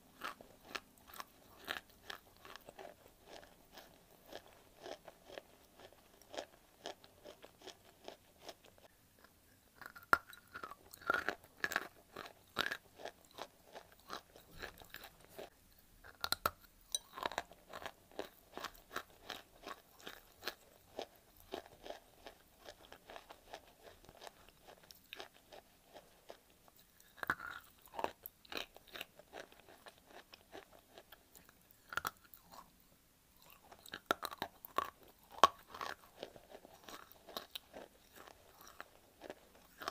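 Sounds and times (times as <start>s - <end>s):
chewing and crunching clay: 0.0s - 32.8s, 33.4s - 39.9s.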